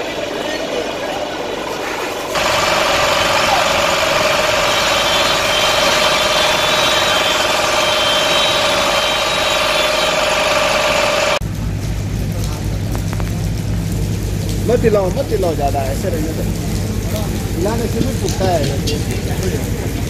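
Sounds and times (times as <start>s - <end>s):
fire engine and water pump running: 0.0s - 20.0s.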